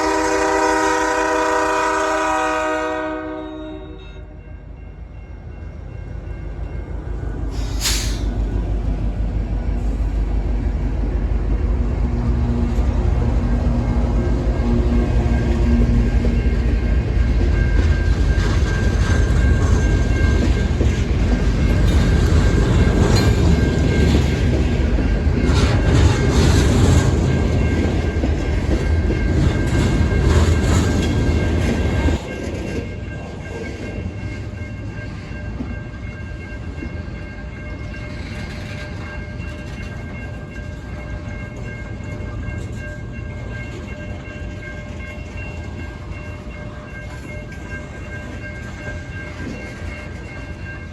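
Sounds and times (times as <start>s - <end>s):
freight train rumbling past: 0.0s - 50.9s.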